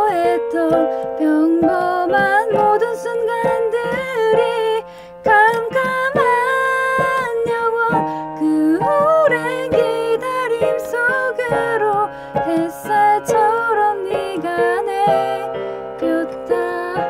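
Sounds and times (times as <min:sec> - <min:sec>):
woman singing pop ballad: 0:00.0 - 0:17.0
backing track music: 0:00.3 - 0:17.0.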